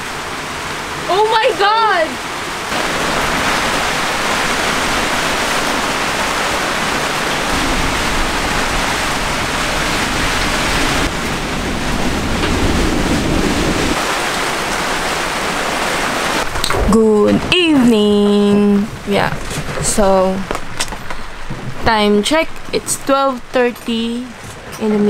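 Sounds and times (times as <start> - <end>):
heavy rain: 0.0 - 24.8
gale-force wind: 0.0 - 25.0
waves around boat: 0.0 - 25.0.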